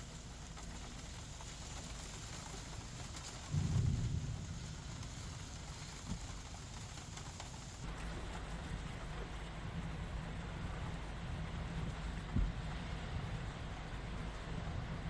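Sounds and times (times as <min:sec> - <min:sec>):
storm rain and wind hiss: 0:00.0 - 0:15.0.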